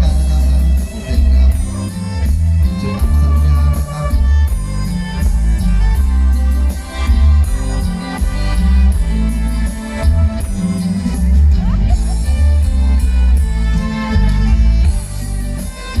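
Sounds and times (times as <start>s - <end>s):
heavy bass line: 0.0s - 16.0s
loud band music: 0.0s - 16.0s
steady drum beat: 0.0s - 16.0s.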